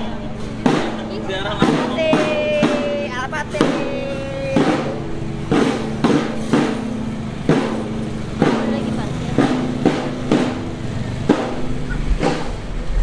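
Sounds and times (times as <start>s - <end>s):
marching drum band playing: 0.0s - 13.0s.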